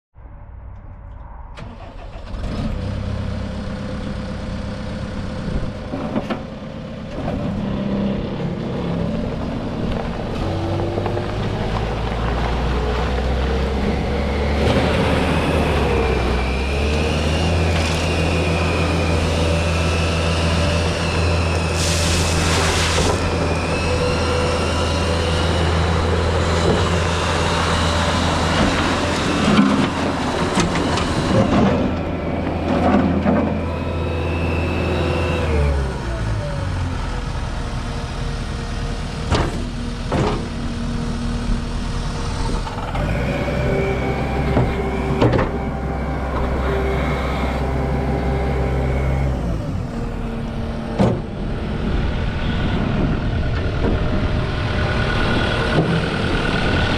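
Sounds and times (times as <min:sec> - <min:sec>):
diesel engine running with whine: 0:00.4 - 0:56.9.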